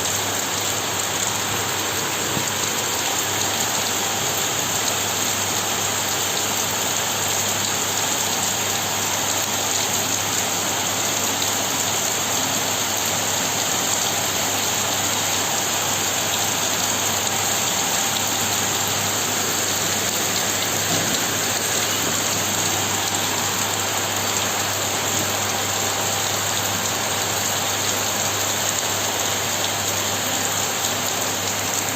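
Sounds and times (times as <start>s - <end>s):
heavy rain on surfaces: 0.0s - 31.9s.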